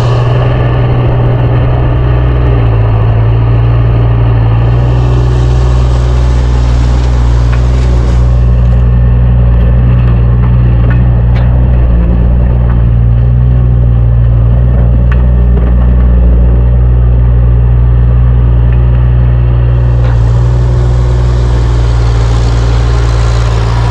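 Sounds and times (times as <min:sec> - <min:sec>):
heavy machinery droning: 0:00.0 - 0:23.9.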